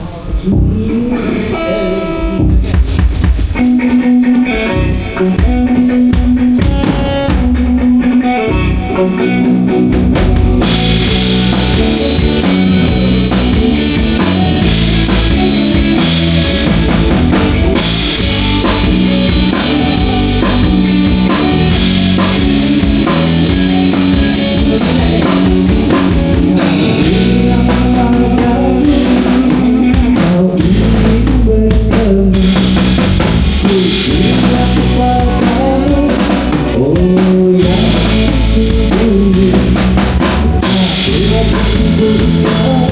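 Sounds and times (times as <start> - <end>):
live band playing: 0.0 - 42.9.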